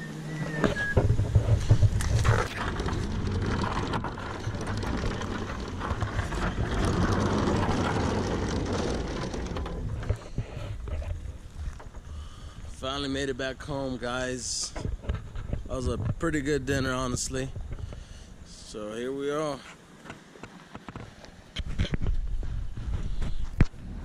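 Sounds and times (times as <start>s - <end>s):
microphone handling rumble and rustling: 0.6s - 18.6s, 20.4s - 24.0s.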